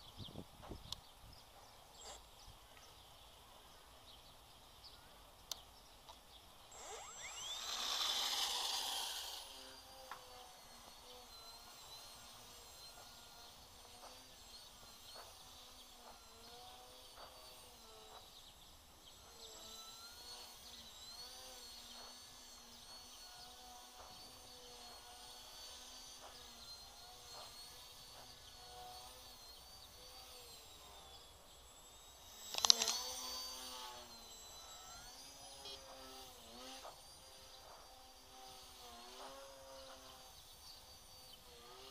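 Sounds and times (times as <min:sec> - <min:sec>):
drone motors buzzing: 0:00.0 - 0:41.9.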